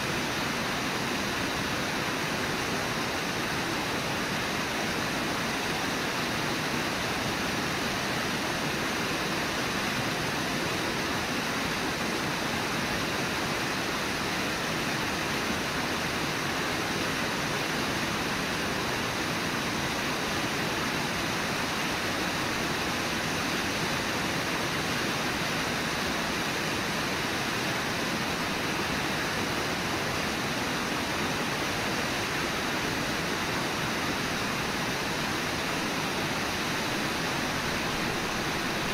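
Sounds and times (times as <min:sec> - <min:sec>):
water rushing over riffles: 0:00.0 - 0:38.9.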